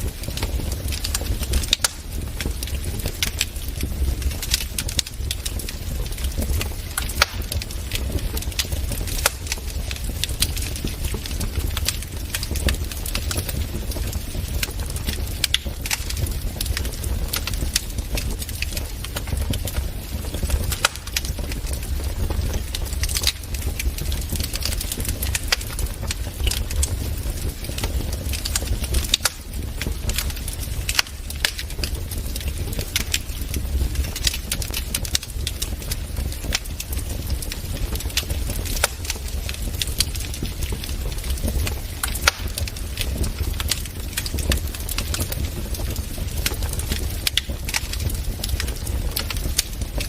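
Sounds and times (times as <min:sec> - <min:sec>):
low rumble of flames: 0:00.0 - 0:50.0
wood fire crackling and popping: 0:00.0 - 0:50.0.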